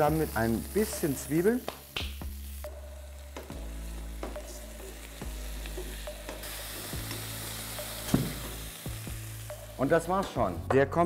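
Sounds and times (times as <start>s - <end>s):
vegetables sizzling in a wok: 0.0s - 10.7s.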